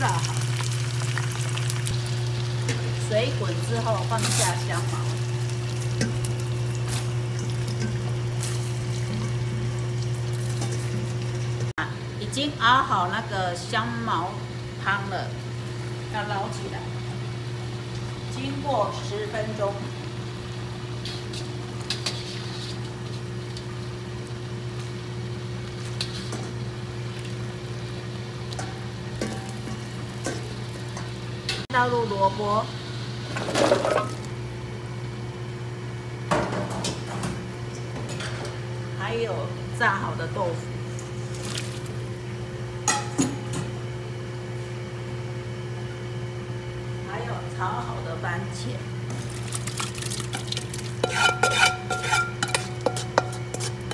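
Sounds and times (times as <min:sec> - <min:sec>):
pot boiling: 0:00.0 - 0:36.2, 0:38.8 - 0:47.7, 0:48.3 - 0:53.9
low kitchen hum: 0:00.0 - 0:53.9.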